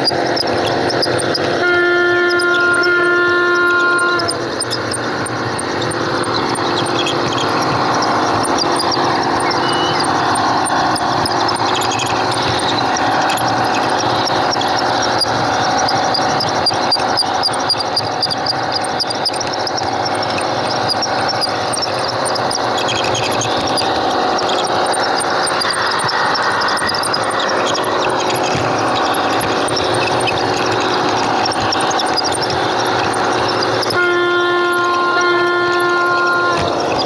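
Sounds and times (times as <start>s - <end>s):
model train motor whirr: 0.0s - 37.0s
wheels clicking over rails: 0.0s - 37.0s.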